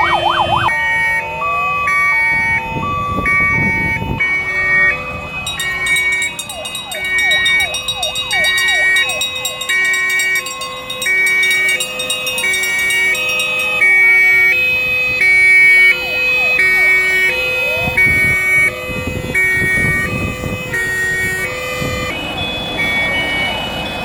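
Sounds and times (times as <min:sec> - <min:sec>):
fire engine two-tone sirens: 0:00.0 - 0:24.0
rising and falling siren wails: 0:00.0 - 0:24.0.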